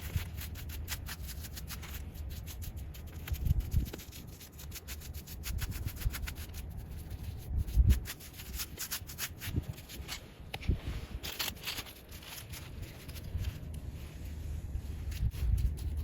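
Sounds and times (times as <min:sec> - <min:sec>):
paintbrush scrubbing tree bark: 0:00.0 - 0:10.3, 0:11.1 - 0:16.0.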